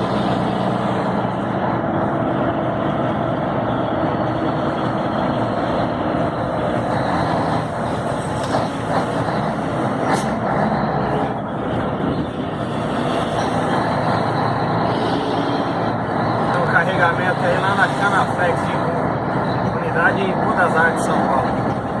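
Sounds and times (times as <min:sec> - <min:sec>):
road and wind noise: 0:00.0 - 0:22.0
truck diesel engine running: 0:00.0 - 0:22.0.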